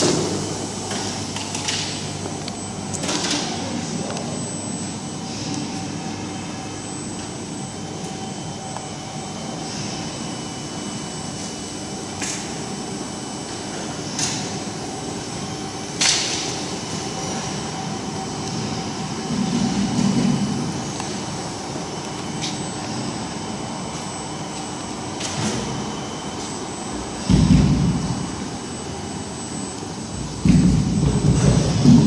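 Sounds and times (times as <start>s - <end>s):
workshop machinery humming: 0.0s - 32.0s.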